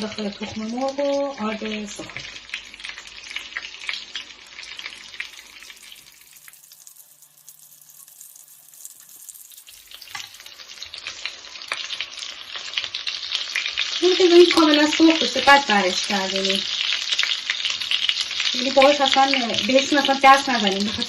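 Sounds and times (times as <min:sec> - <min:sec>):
chicken sizzling in hot oil: 0:00.0 - 0:21.0.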